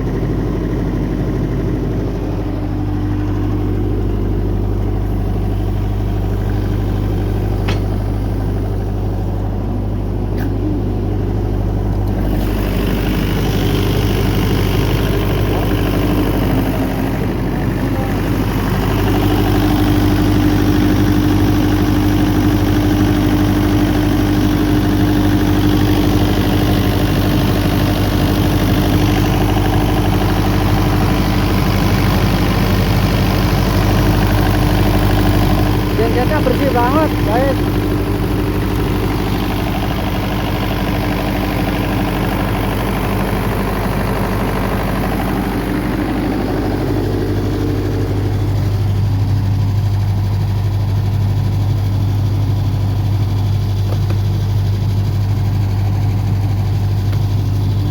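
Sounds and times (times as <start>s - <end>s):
diesel generator running: 0.0s - 57.9s.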